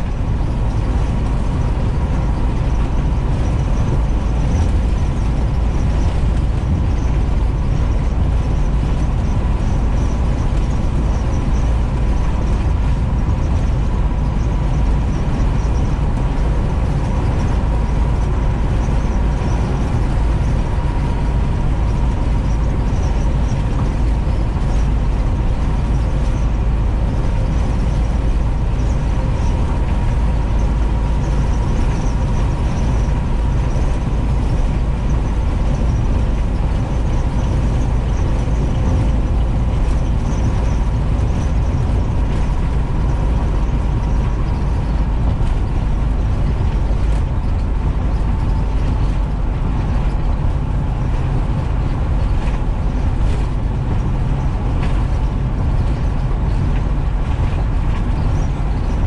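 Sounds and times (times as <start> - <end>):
bus engine drone and road noise: 0.0 - 59.0
faint steady whine: 0.0 - 59.0.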